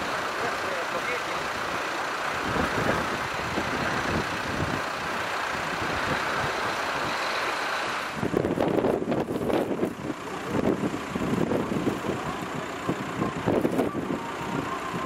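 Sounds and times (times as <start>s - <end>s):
motorway traffic hissing by: 0.0s - 15.0s.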